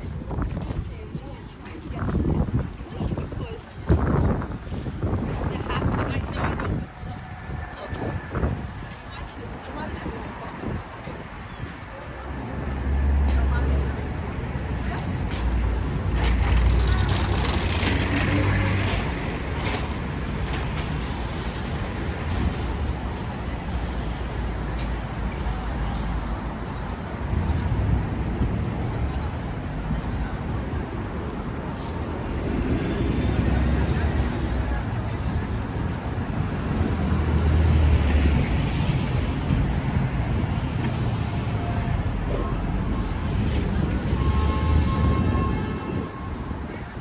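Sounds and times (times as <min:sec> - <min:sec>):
traffic rumble: 0:00.0 - 0:47.0
vehicles passing: 0:00.0 - 0:47.0.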